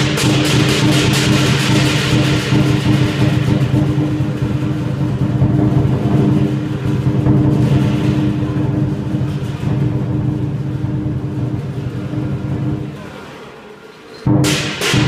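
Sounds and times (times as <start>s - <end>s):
drum and gong ringing: 0.0s - 13.4s, 14.3s - 15.0s
cymbal clashes: 0.0s - 15.0s.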